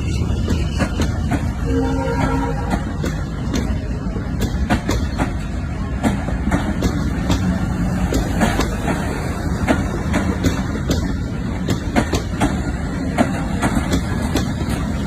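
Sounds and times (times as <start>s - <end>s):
wheels clicking over rails: 2.2s - 15.0s.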